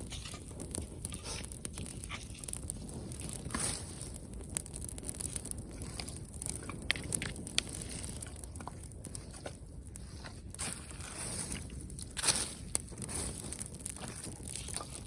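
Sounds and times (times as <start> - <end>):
campfire crackling: 0.0 - 15.0
sharp fire pops: 0.0 - 15.0.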